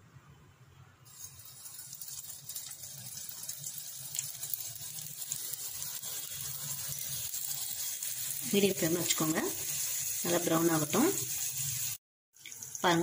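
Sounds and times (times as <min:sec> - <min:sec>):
dough sizzling in hot oil: 0:01.0 - 0:13.0.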